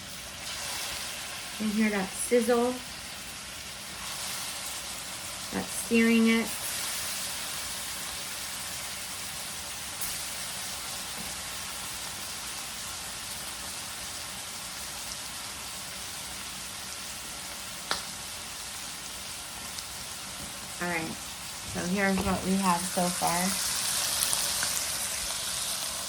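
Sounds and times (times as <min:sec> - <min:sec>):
steaks sizzling in a pan: 0:00.0 - 0:26.0.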